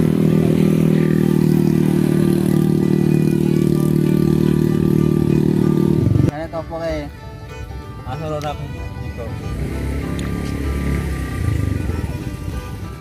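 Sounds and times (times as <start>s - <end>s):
small motorcycle engine running: 0.0s - 6.4s, 7.4s - 13.0s.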